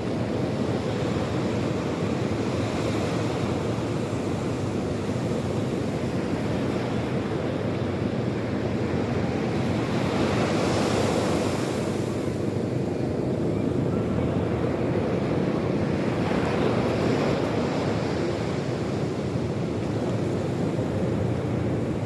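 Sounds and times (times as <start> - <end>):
sea surf washing ashore: 0.0 - 22.0.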